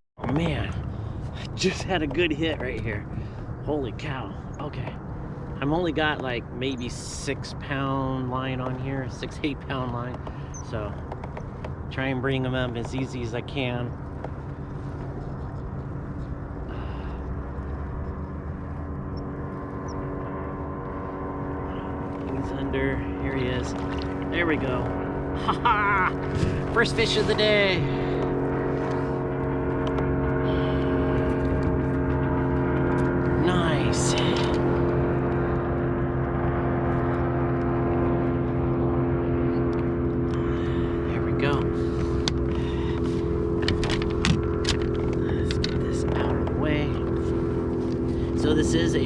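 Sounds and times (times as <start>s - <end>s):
steady engine drone: 0.2s - 49.0s.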